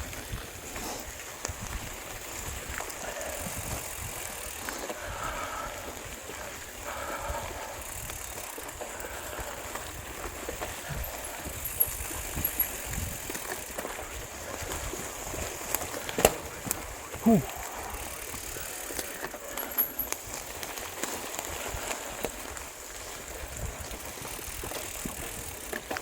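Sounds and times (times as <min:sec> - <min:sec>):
bike tyres rolling on dirt: 0:00.0 - 0:26.0.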